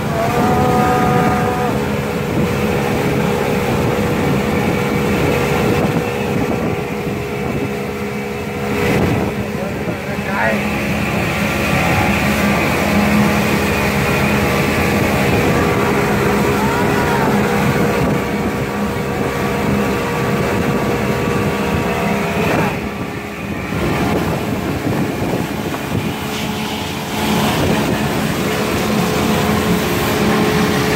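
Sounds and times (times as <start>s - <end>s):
churning boat wake: 0.0s - 30.9s
outboard motor running: 0.0s - 30.9s
wind: 0.0s - 30.9s.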